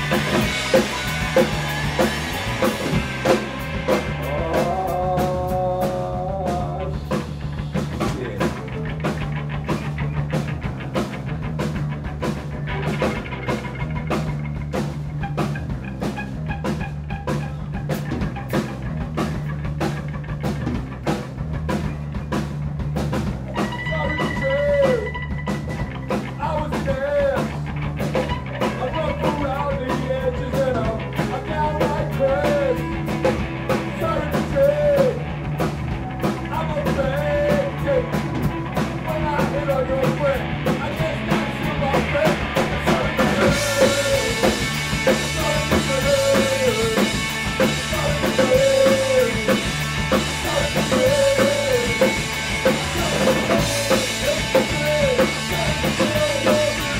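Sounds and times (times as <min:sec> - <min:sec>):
melodic guitar line with bent notes: 0:00.0 - 0:56.9
punk rock band playing live: 0:00.0 - 0:56.9.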